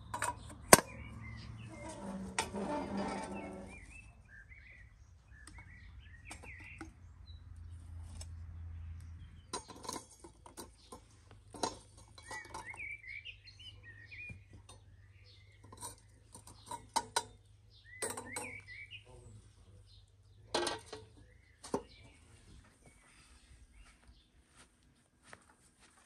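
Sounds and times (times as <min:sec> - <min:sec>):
small birds chirping: 0:00.0 - 0:02.4, 0:03.0 - 0:25.1.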